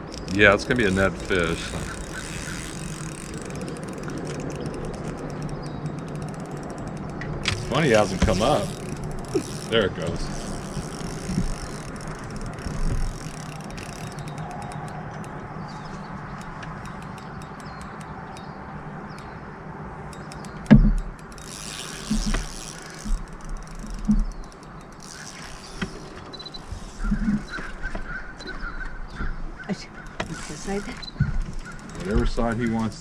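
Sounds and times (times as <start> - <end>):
fishing reel clicking: 0.0 - 27.7, 30.0 - 33.0.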